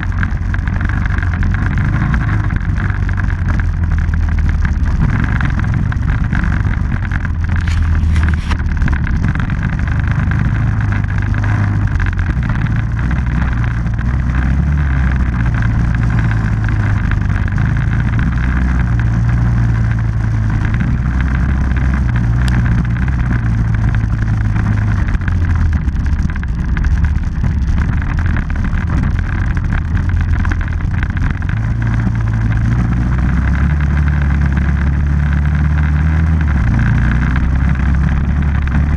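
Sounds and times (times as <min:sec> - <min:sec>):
off-road vehicle engine running: 0:00.0 - 0:38.9.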